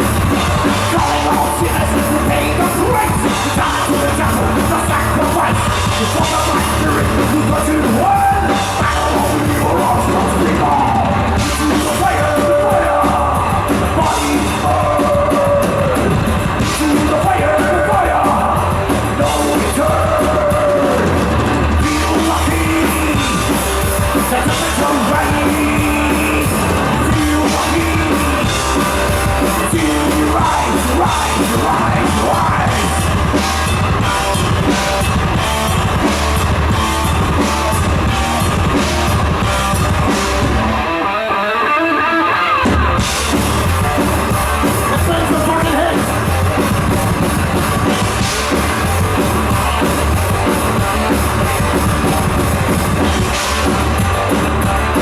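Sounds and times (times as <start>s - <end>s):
heavy metal band playing live: 0.0s - 55.0s.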